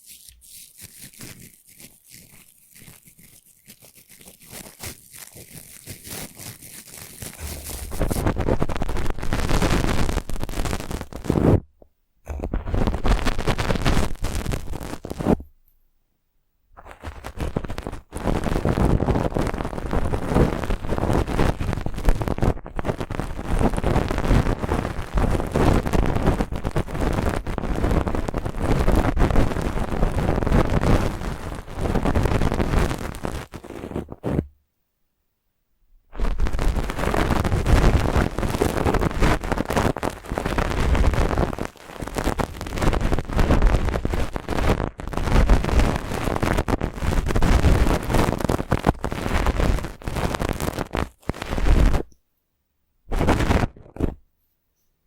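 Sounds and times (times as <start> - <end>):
brush scratching on microphone: 0.0 - 11.6, 12.3 - 15.5, 16.8 - 27.4, 28.0 - 34.5, 36.2 - 52.1, 53.1 - 54.2.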